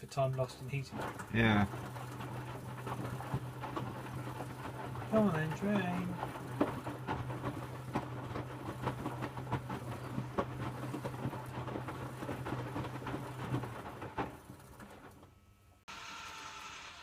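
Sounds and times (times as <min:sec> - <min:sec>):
washing machine low hum: 0:00.0 - 0:15.9
clicking and knocking: 0:00.2 - 0:15.3.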